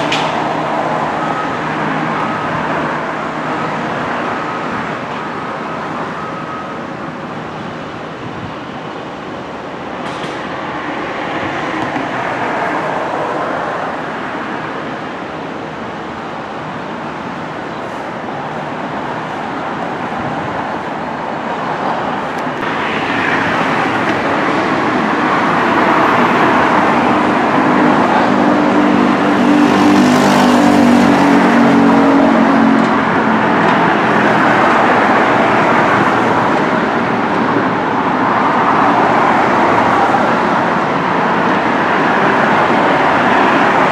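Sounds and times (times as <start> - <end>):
vehicle running rush: 0.0 - 43.9.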